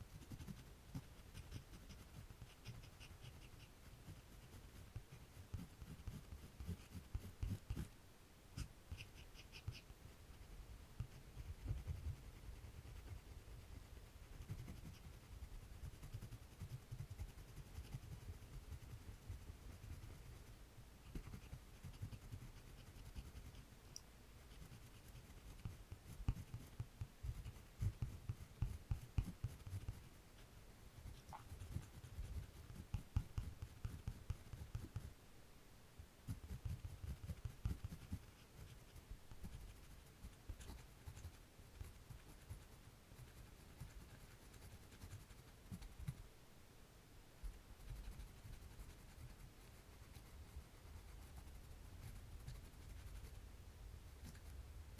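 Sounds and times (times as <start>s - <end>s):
pencil scratching on paper: 0.0s - 8.0s, 8.6s - 23.6s, 24.4s - 30.2s, 31.0s - 35.1s, 36.3s - 46.2s, 47.8s - 53.4s, 54.1s - 54.6s.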